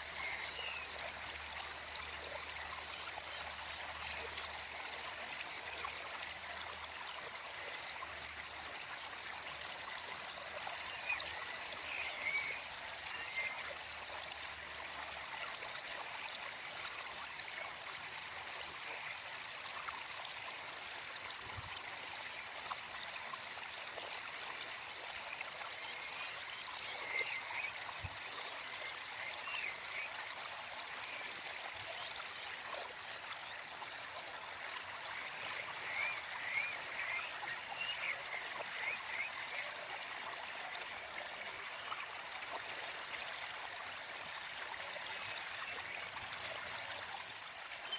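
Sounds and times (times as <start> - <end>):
stream flowing over rocks: 0.0 - 47.9.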